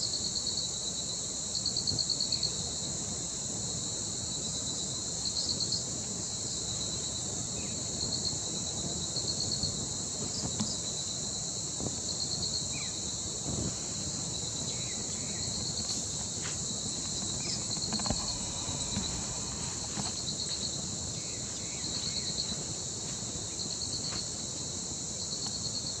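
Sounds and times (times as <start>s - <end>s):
insect pulsed trills: 0.0s - 26.0s
insects droning: 0.0s - 26.0s.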